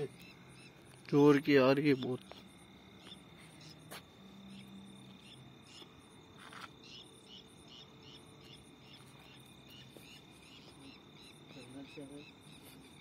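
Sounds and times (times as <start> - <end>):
night insects chirping: 0.0 - 13.0
steady high insect trill: 0.0 - 13.0.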